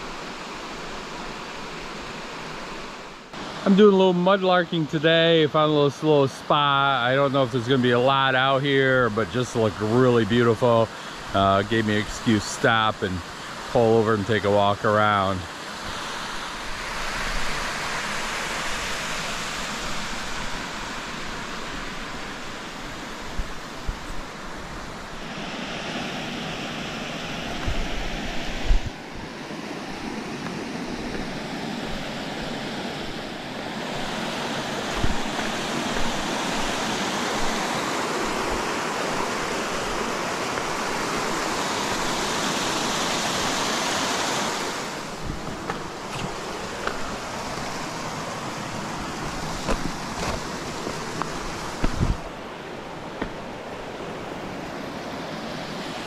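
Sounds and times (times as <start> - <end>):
small waterfalls rushing: 0.0 - 56.0.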